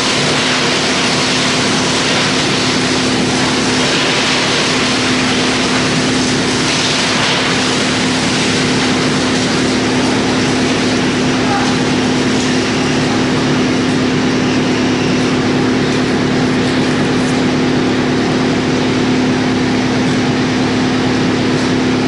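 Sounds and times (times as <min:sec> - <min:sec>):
wood chipper running: 0:00.0 - 0:22.0.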